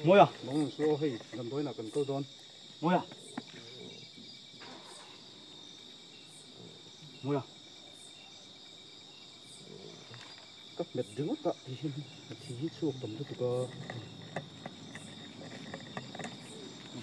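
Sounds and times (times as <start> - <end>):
night insects chirring: 0.0 - 17.0.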